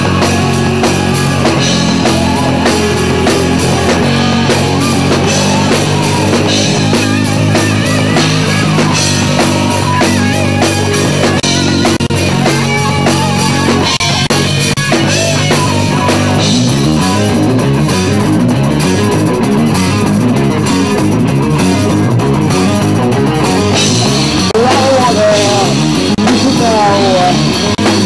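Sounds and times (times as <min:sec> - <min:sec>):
bass guitar: 0:00.0 - 0:28.0
distorted electric guitars: 0:00.0 - 0:28.0
drum kit: 0:00.0 - 0:28.0.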